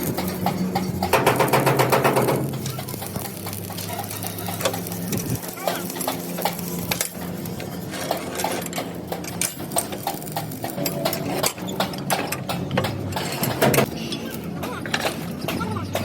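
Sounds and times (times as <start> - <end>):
sharp metal clicks and knocks: 0.0 - 14.0.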